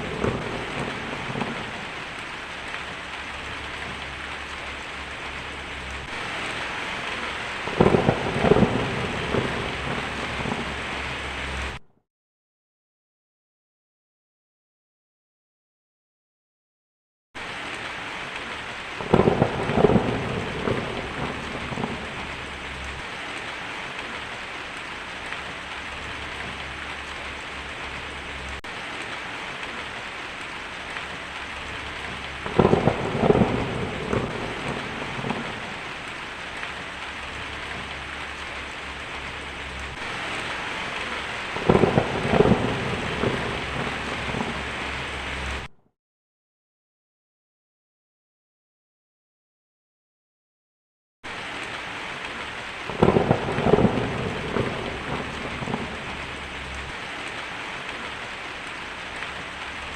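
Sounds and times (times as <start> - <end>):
heavy rain on a tin roof: 0.0 - 11.8, 17.4 - 45.7, 51.3 - 59.9
thunder crackling and rumbling: 0.0 - 11.8, 17.4 - 45.7, 51.3 - 59.9.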